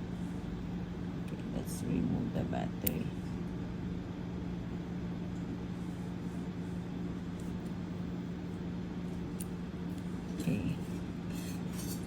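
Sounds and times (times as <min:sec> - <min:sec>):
room noise hum and hiss: 0:00.0 - 0:12.0.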